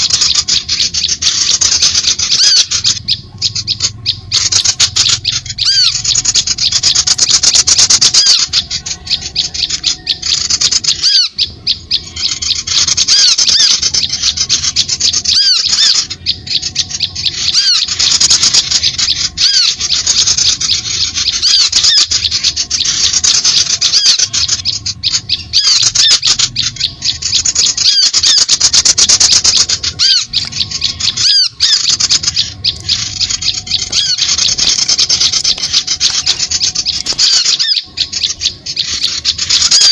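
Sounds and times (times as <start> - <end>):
birds chattering and squawking: 0.0 - 39.9.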